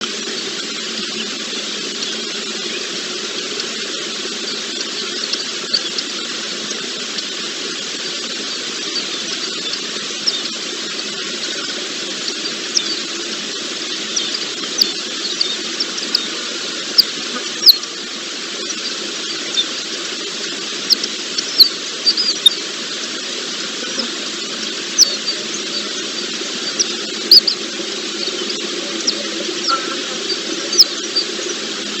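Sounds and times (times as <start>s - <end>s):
small birds chirping: 0.0s - 32.0s
steady hiss: 0.0s - 32.0s.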